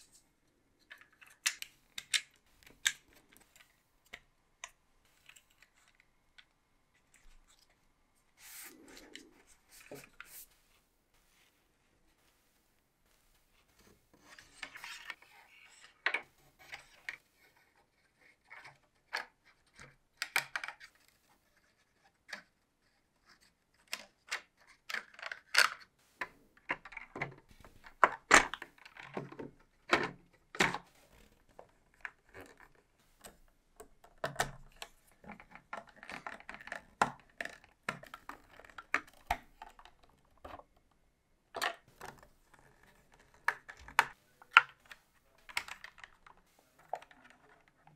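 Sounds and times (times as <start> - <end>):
plastic parts clicking and tapping: 0.8 - 7.7, 13.6 - 21.1, 23.8 - 47.9.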